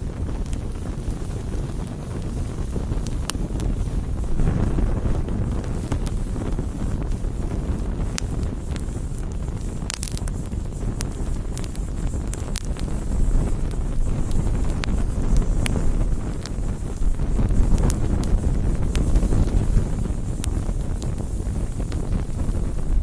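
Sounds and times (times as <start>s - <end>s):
low fire rumble: 0.0s - 23.0s
wood crackling and popping: 0.0s - 23.0s.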